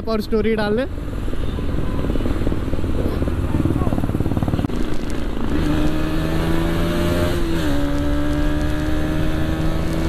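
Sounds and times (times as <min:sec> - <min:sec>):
motorcycle engine accelerating: 0:00.9 - 0:10.0.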